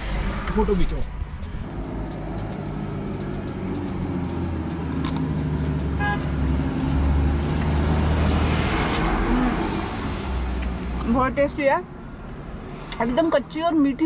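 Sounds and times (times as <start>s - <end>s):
car engine running: 0.0s - 11.4s.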